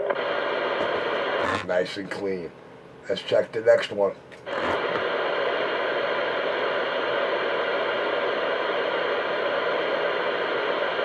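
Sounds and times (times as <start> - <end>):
radio static hiss: 0.0 - 2.5, 3.1 - 11.0.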